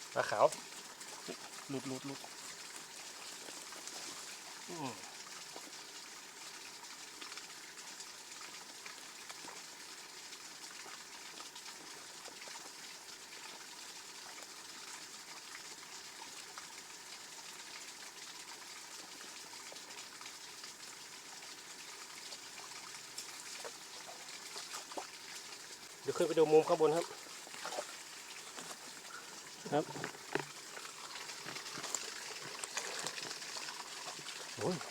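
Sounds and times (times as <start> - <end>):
small waterfall rushing: 0.0 - 7.2, 13.1 - 34.9.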